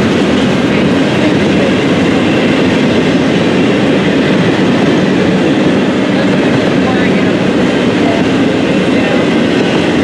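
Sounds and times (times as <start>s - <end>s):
train cars rolling over rails: 0.0s - 10.0s.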